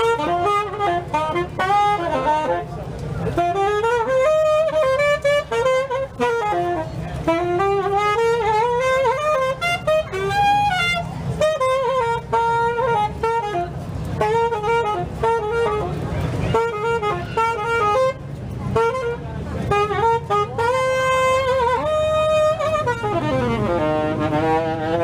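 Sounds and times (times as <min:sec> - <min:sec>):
low accompaniment: 0:00.0 - 0:25.0
saxophone playing blues melody: 0:00.0 - 0:25.0.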